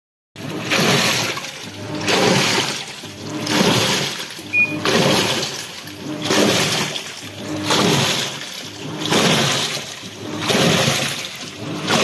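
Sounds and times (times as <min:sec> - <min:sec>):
washing machine sloshing water: 0:00.4 - 0:12.0.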